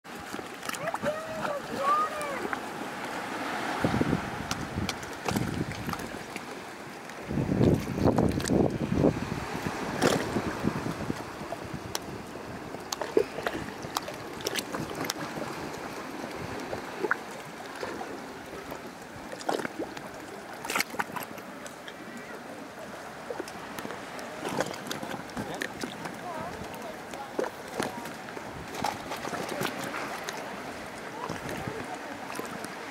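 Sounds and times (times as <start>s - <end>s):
seawater lapping and splashing: 0.0s - 32.9s.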